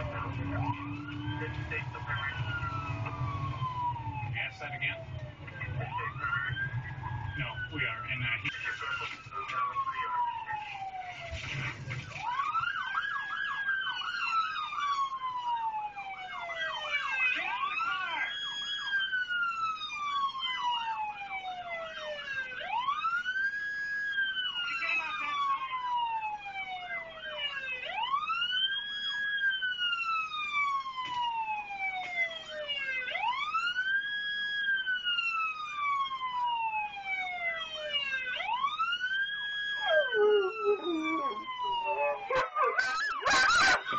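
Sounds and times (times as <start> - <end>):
emergency vehicle siren wailing: 0.0 - 43.9.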